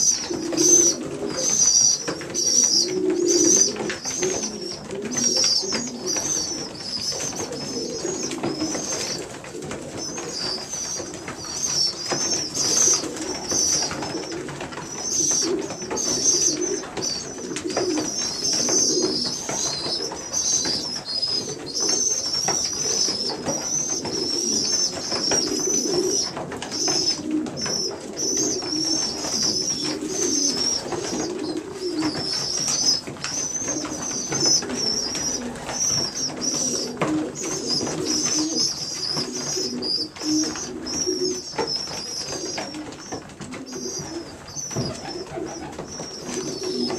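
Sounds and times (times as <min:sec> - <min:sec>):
pigeons cooing: 0:00.0 - 0:46.9
young pigeons peeping: 0:00.0 - 0:46.9.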